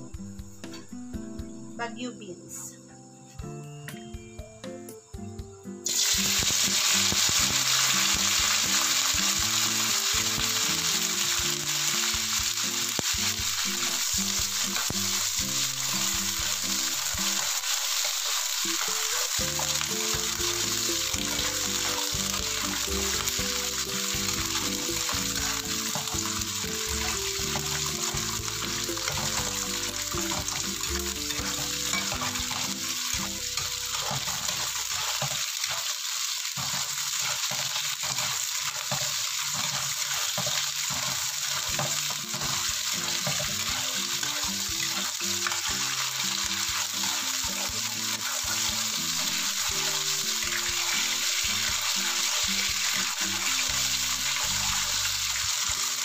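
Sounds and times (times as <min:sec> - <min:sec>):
beans sizzling in hot oil: 0:05.8 - 0:56.0
spatula stirring in a wok: 0:05.9 - 0:56.0.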